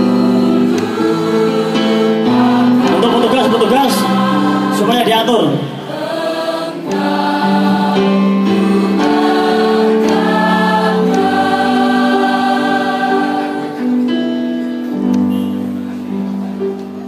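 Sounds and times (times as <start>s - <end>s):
choir singing slow melody: 0.0s - 17.0s.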